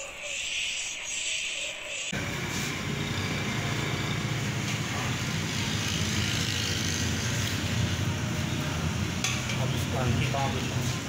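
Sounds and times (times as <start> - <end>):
gas burner roaring: 2.1 - 11.0.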